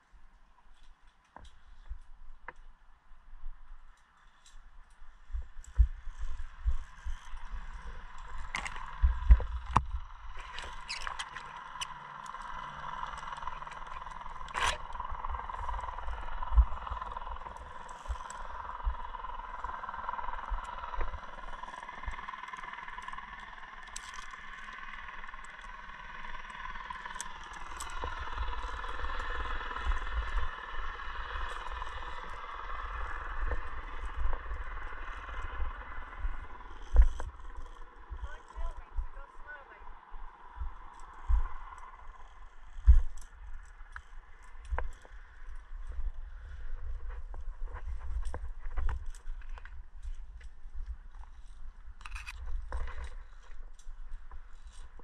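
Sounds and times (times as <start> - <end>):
climbing gear clattering and scraping: 4.0 - 39.1, 40.8 - 55.0.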